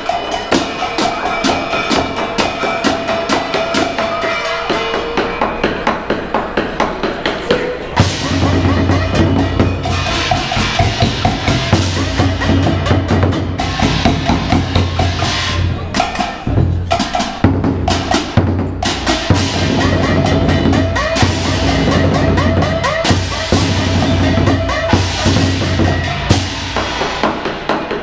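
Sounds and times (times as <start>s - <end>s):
drum ensemble playing: 0.0s - 28.0s
hand-held percussion: 0.0s - 28.0s.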